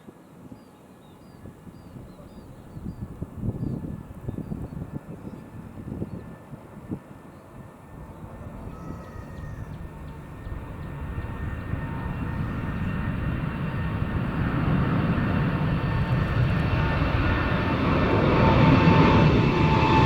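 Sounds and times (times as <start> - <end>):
jet airliner taking off: 2.5 - 20.0.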